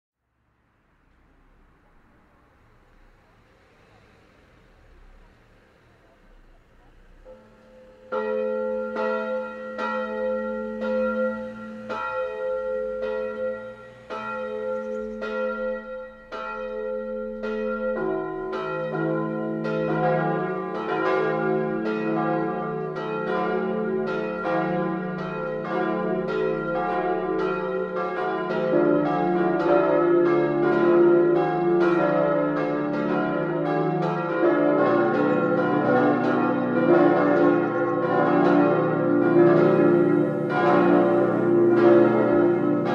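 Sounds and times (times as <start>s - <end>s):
church bells ringing: 6.2s - 42.9s.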